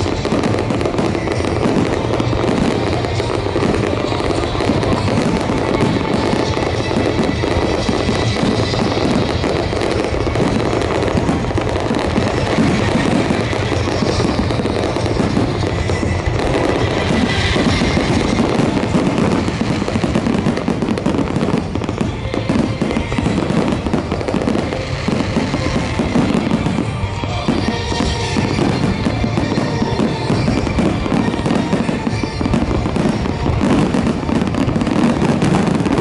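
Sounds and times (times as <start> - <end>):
firework crackle: 0.0 - 36.0.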